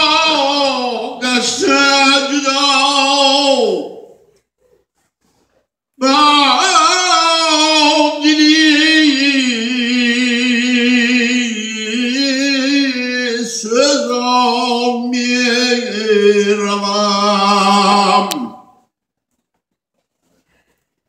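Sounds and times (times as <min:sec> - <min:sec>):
man singing chant: 0:00.0 - 0:04.1, 0:06.0 - 0:18.8.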